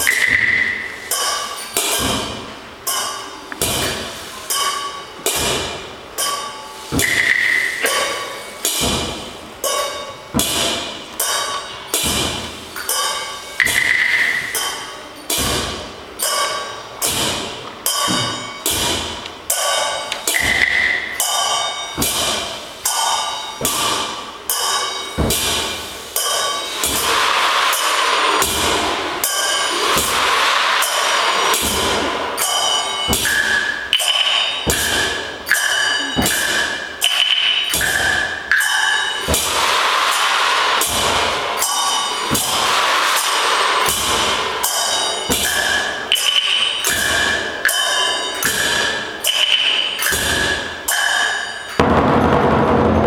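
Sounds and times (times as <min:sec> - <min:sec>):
gongs and cymbals playing: 0:00.0 - 0:53.0.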